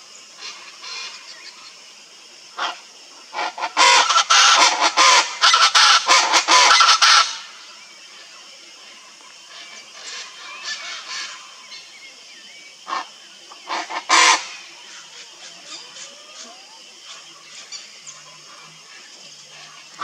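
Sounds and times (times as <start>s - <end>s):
birds calling: 2.5s - 20.0s.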